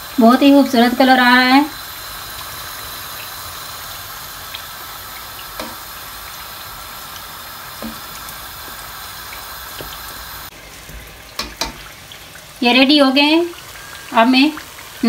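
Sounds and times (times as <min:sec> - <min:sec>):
deep-frying oil sizzling: 0:00.0 - 0:15.0.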